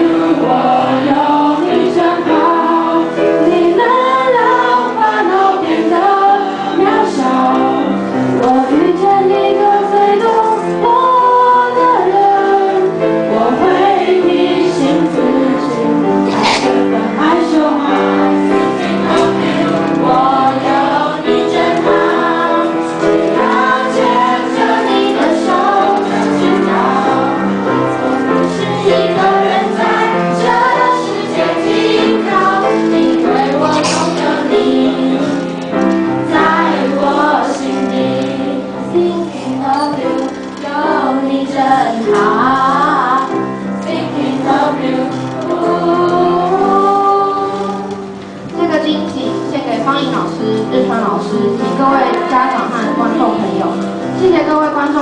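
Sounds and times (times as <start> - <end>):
choir singing in unison: 0.0 - 48.1, 51.2 - 54.3
instrumental accompaniment: 0.0 - 55.0.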